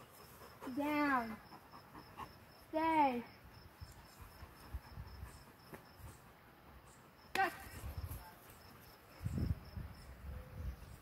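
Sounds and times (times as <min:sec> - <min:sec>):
insects chirping: 0:00.0 - 0:10.4.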